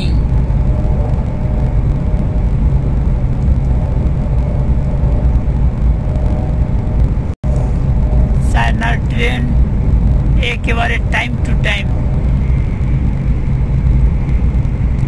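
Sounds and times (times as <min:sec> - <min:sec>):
faint steady hum: 0:00.0 - 0:15.0
train rumbling at speed: 0:00.0 - 0:15.0.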